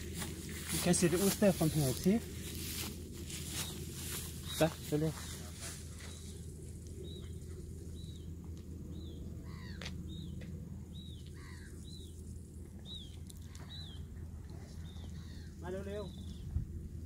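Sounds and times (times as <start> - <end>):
birds chirping: 0.0 - 16.6
low outdoor rumble: 0.0 - 17.0.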